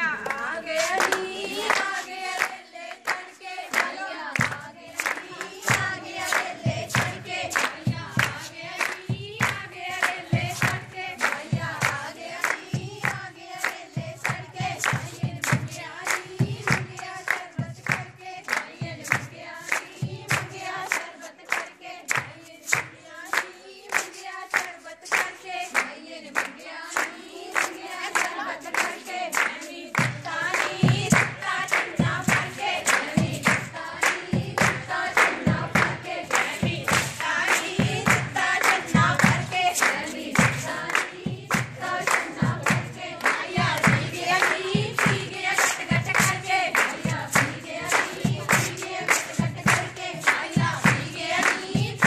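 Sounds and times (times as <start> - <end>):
rhythmic hand clapping: 0.0 - 52.0
women singing folk song: 0.0 - 52.0.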